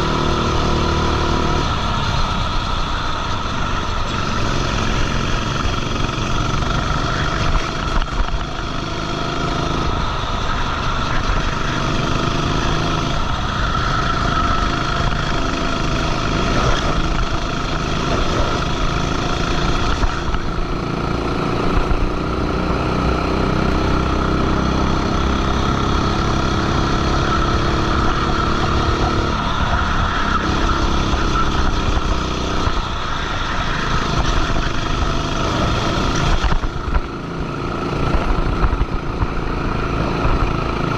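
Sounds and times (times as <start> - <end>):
go-kart engine racing: 0.0 - 40.9
high whine: 0.0 - 40.9.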